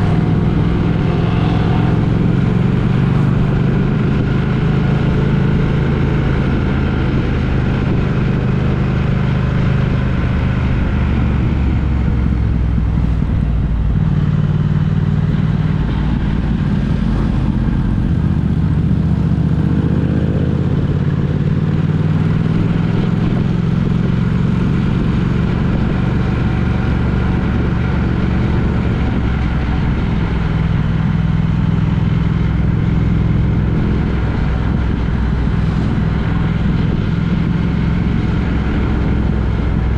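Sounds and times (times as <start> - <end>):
engine drone at speed: 0.0 - 39.9
road noise: 0.0 - 39.9.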